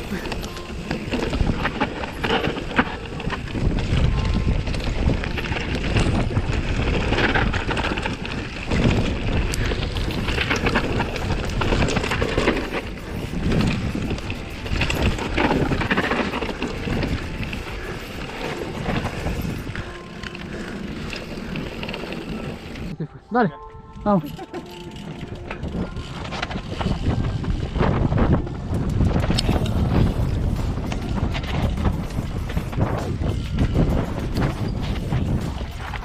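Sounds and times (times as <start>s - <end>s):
bike rattling and knocking: 0.0s - 23.0s, 24.2s - 36.0s
tyre noise on dirt: 0.0s - 23.0s, 24.9s - 36.0s
wind buffeting microphone: 0.0s - 23.0s, 23.8s - 36.0s.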